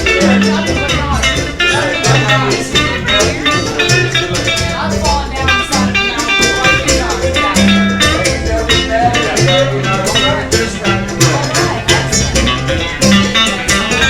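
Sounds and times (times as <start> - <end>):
bass line: 0.0 - 14.0
guitar: 0.0 - 14.0
steady percussion beat: 0.0 - 14.0.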